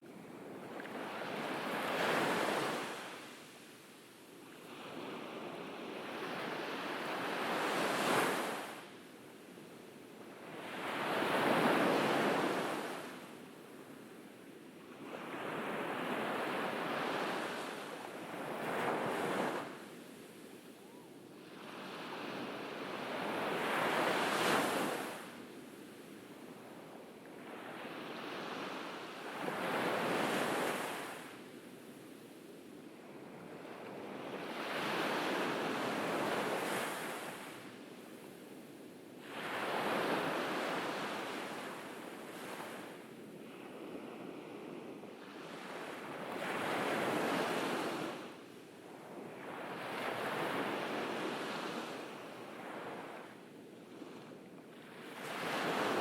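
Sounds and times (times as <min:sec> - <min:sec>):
ocean waves breaking on beach: 0:00.1 - 0:03.9, 0:04.5 - 0:09.1, 0:10.3 - 0:14.1, 0:14.8 - 0:56.0.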